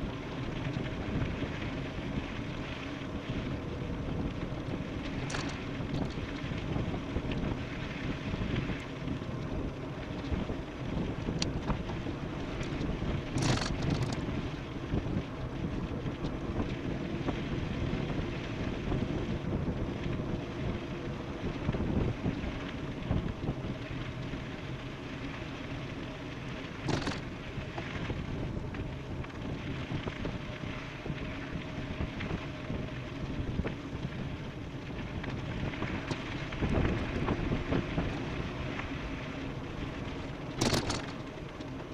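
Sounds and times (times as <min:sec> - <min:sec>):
wind rushing over microphone: 0:00.0 - 0:25.0, 0:26.0 - 0:41.9
e-bike rumble: 0:00.0 - 0:41.9.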